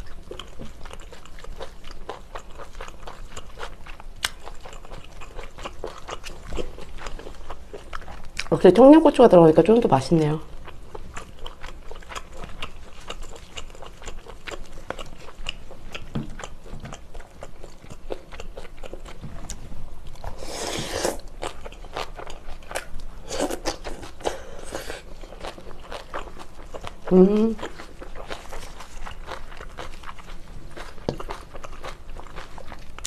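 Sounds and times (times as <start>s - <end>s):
close wet chewing: 0.0s - 8.6s, 10.5s - 33.0s.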